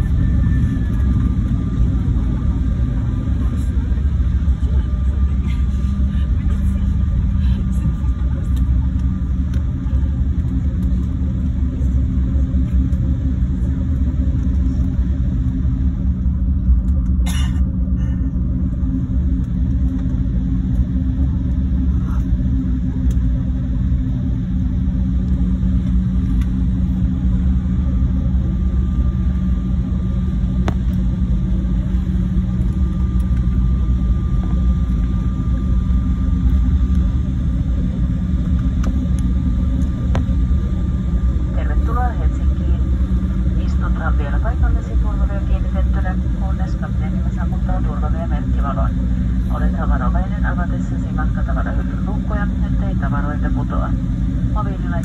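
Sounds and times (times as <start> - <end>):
airliner cabin low rumble: 0.0 - 55.0.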